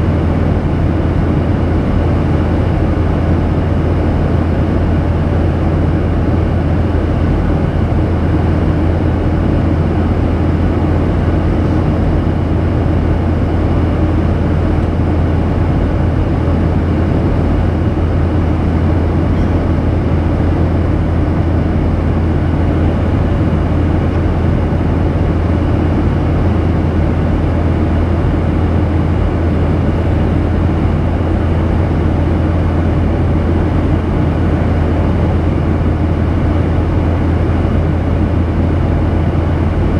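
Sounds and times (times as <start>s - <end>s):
jet engine drone: 0.0s - 39.9s
low hum: 0.0s - 39.9s.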